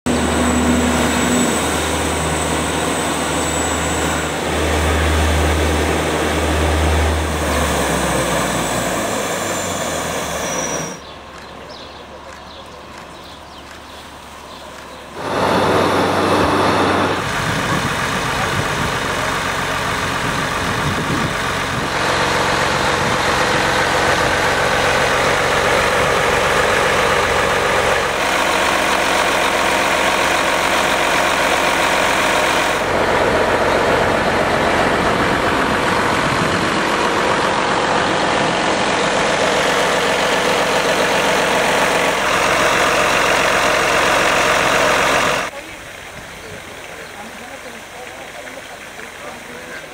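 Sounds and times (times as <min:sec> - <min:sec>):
pump engine running: 0:00.1 - 0:49.9.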